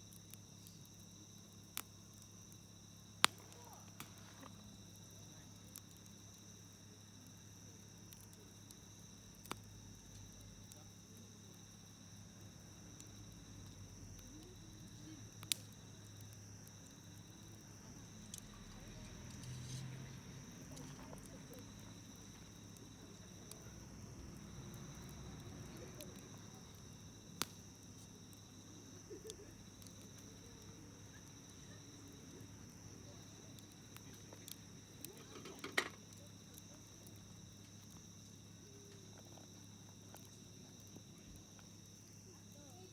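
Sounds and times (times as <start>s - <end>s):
sharp fire pops: 0.0s - 42.8s
campfire crackling: 0.0s - 42.9s
insects trilling: 0.0s - 42.9s.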